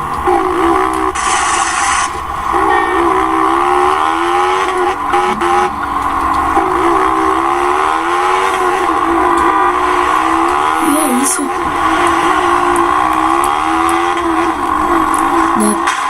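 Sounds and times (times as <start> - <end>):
motorcycle engine through open exhaust: 0.0 - 16.0.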